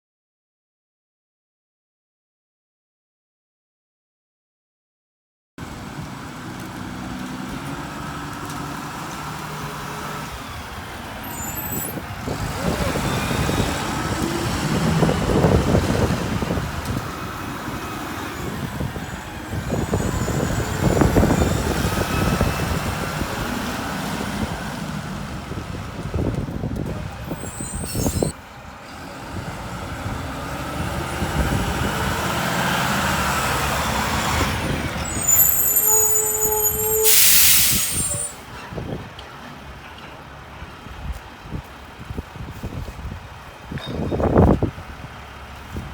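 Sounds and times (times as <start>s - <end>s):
garbage truck diesel engine: 5.6s - 45.9s.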